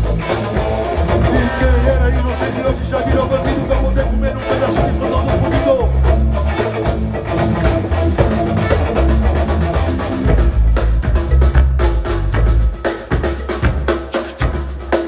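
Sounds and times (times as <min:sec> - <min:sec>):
live band playing loudly: 0:00.0 - 0:15.0.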